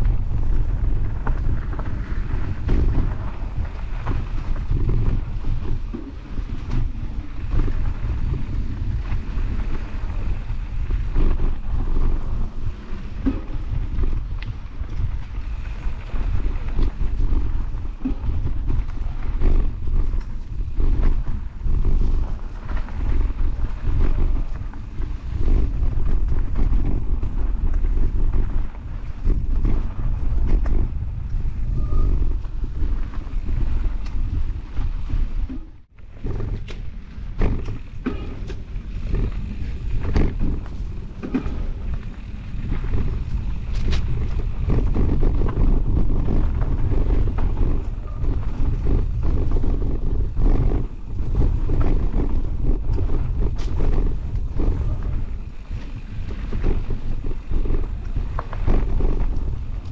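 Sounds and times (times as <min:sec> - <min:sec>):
bike clicks and rattles: 0:00.0 - 0:59.9
tyre rumble on dirt: 0:00.0 - 0:59.9
wind buffeting microphone: 0:00.0 - 0:59.9.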